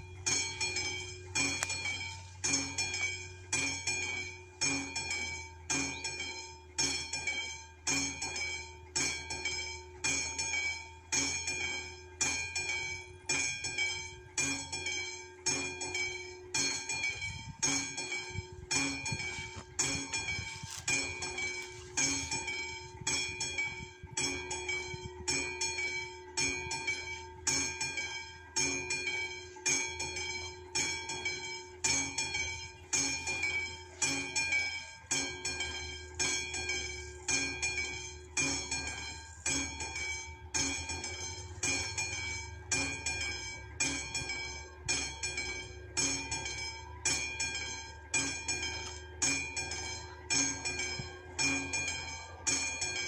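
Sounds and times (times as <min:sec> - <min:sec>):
level crossing warning bell ringing: 0:00.0 - 0:53.0.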